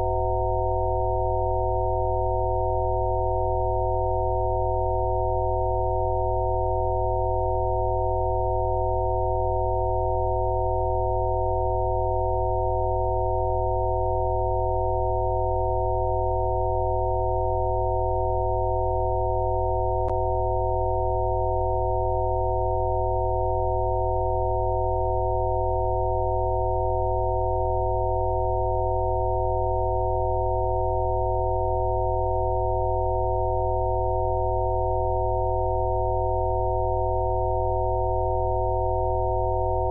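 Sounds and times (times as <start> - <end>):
steady pure sine tones: 0.0 - 39.9.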